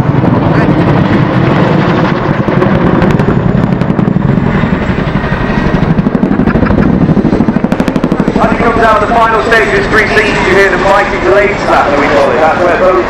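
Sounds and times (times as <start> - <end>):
helicopter engines running: 0.0 - 13.0
helicopter rotor blade slap: 0.0 - 13.0.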